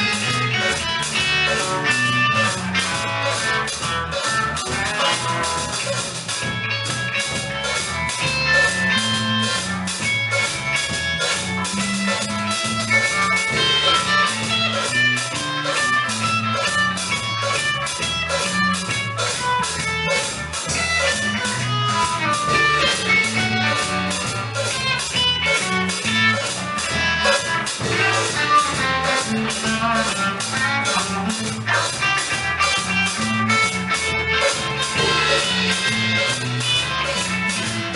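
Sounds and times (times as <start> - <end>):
drum kit: 0.0 - 37.9
guitar: 0.0 - 37.9
live band playing: 0.0 - 37.9
moving bass line: 0.0 - 37.9.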